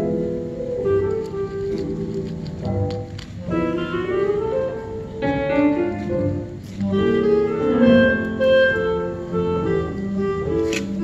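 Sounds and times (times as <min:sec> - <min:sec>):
clarinet melody: 0:00.0 - 0:11.0
piano accompaniment: 0:00.0 - 0:11.0.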